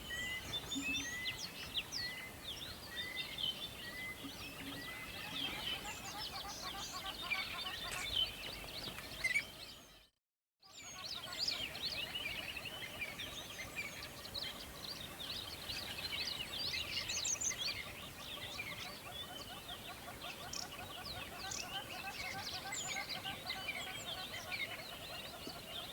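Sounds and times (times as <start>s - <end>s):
small birds chirping: 0.0s - 10.1s, 10.7s - 25.9s.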